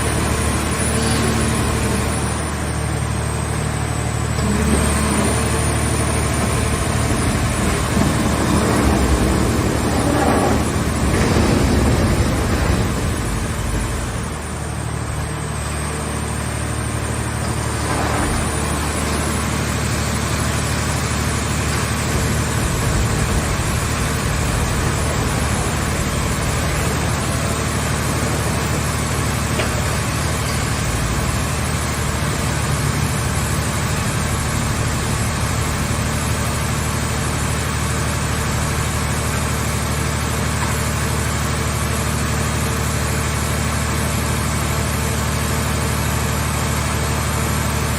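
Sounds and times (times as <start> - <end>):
machine power unit droning: 0.0 - 47.9.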